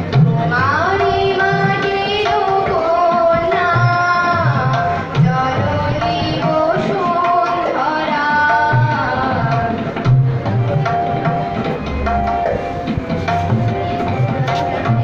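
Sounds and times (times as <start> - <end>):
harmonium melody: 0.0 - 15.0
tabla strokes: 0.0 - 15.0.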